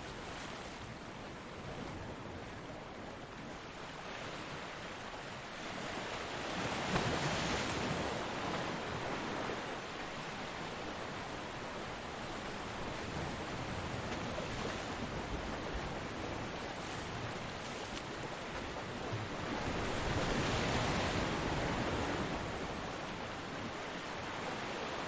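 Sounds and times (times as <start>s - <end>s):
ocean waves on beach: 0.0s - 25.0s.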